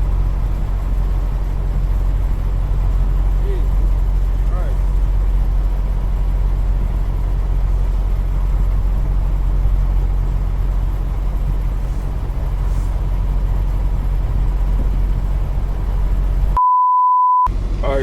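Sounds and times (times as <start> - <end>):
truck engine humming: 0.0 - 16.6, 17.5 - 18.0.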